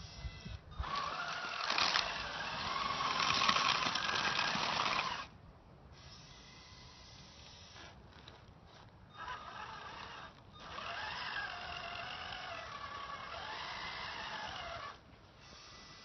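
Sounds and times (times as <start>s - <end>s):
toy truck electric motor whining: 0.0s - 5.3s, 6.0s - 16.0s.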